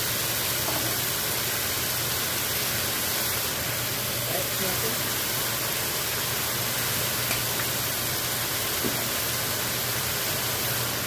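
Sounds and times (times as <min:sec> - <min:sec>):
vegetables sizzling in a skillet: 0:00.0 - 0:11.0.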